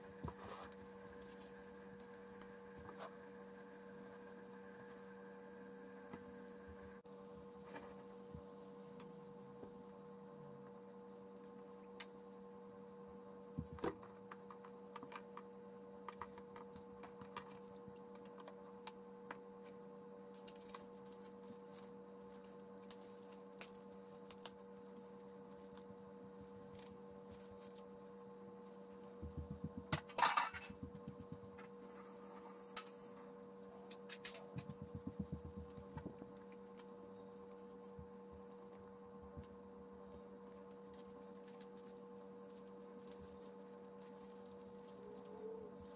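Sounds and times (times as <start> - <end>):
steady electrical hum: 0.0 - 45.9.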